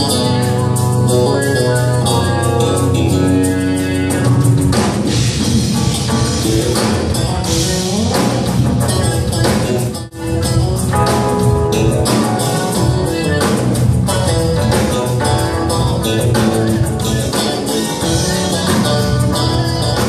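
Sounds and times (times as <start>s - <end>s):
bass guitar: 0.0s - 20.0s
drum kit: 0.0s - 20.0s
keyboard: 0.0s - 20.0s.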